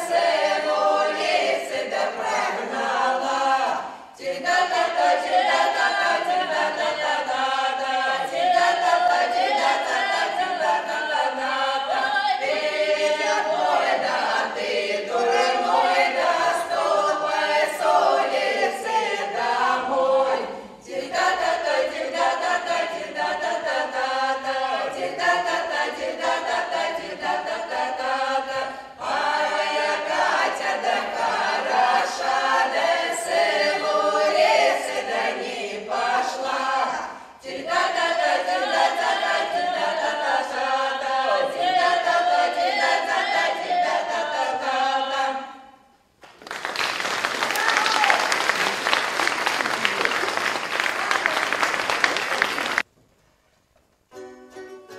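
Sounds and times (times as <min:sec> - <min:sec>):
women singing a cappella: 0:00.0 - 0:45.9.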